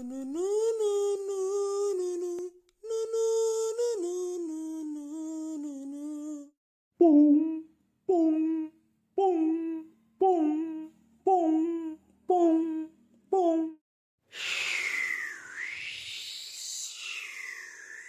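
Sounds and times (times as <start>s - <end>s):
high voice humming: 0.0s - 13.8s, 14.4s - 18.0s.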